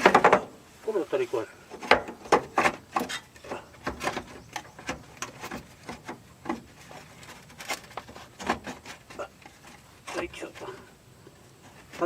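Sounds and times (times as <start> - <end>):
fan assembly clicking and scraping: 0.0 - 0.6, 1.6 - 12.0.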